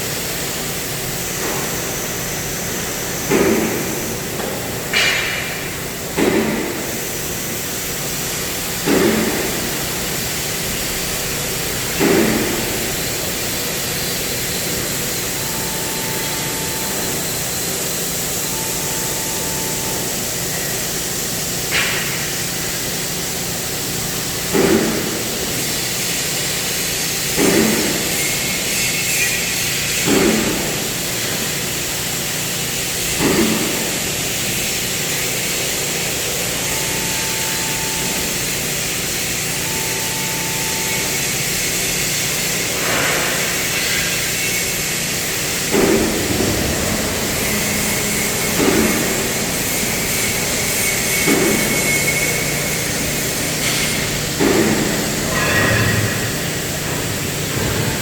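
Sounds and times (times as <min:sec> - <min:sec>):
cnc machine hiss and hum: 0:00.0 - 0:58.0.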